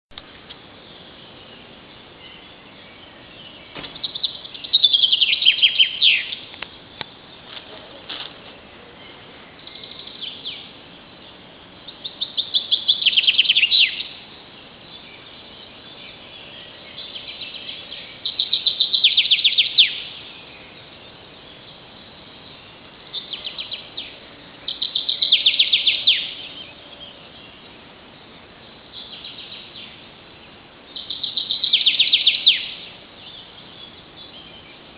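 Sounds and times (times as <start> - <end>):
songbird song falling phrases: 0.1 - 34.9.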